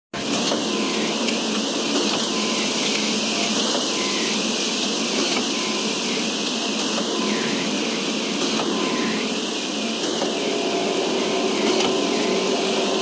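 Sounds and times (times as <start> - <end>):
concrete pump running: 0.1 - 13.0.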